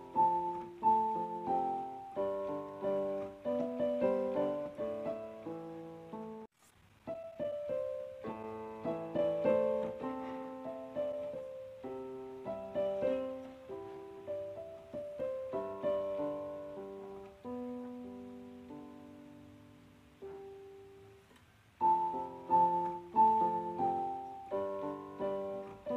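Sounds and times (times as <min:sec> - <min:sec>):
gentle piano music: 0:00.0 - 0:25.9.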